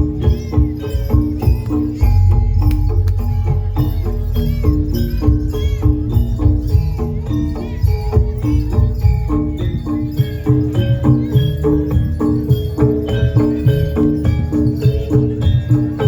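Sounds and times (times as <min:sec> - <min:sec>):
heavy drumming: 0:00.0 - 0:16.0
metal mallet instruments melody: 0:00.0 - 0:16.0.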